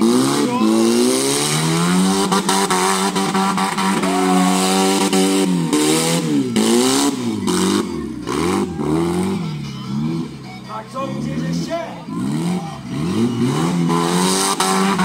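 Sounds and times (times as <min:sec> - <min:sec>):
car engine revving hard: 0:00.0 - 0:10.4, 0:11.5 - 0:15.0.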